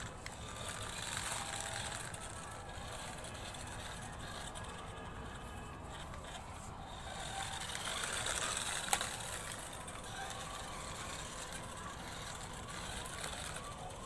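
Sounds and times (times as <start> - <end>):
toy car electric motor whirring: 0.0 - 14.0.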